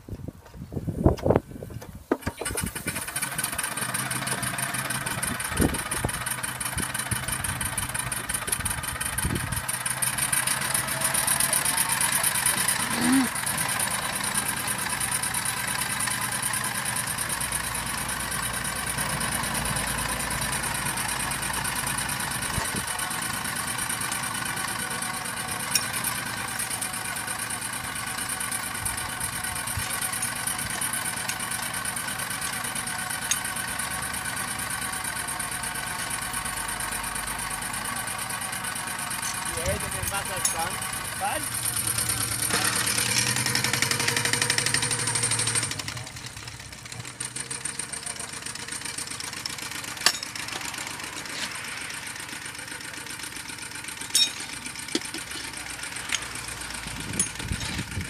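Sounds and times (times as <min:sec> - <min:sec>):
steam engine running: 0:02.2 - 0:58.0.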